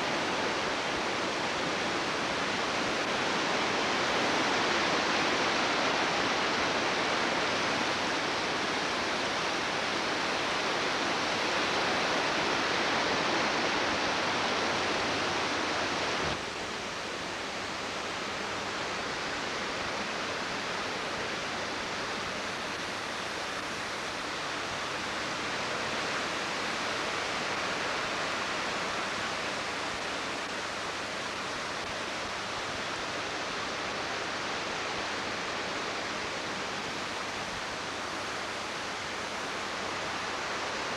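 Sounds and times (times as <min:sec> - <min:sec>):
creek water roaring: 0:00.0 - 0:40.9.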